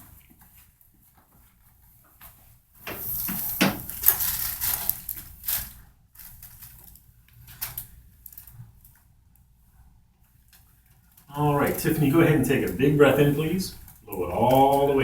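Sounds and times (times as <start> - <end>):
rustling and shuffling: 0.0 - 15.0.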